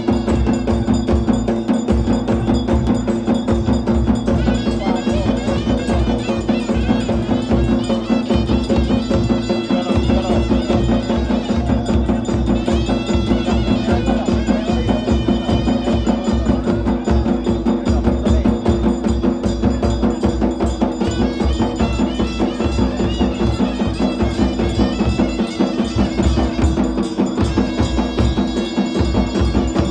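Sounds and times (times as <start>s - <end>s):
bells: 0.0s - 29.9s
drums beating fast rhythm: 0.0s - 29.9s.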